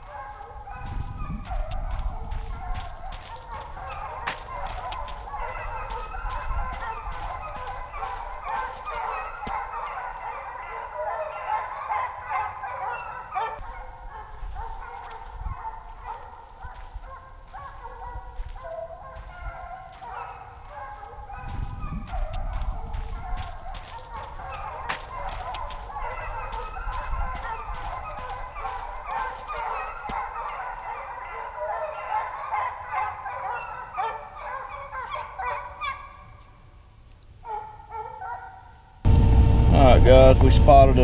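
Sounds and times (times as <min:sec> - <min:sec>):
hunting dogs baying: 0:00.0 - 0:36.6, 0:37.4 - 0:38.9.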